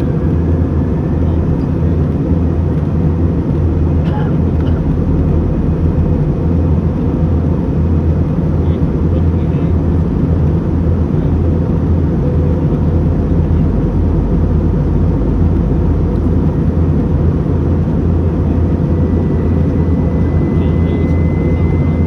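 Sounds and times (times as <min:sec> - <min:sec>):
deep engine hum: 0:00.0 - 0:22.0.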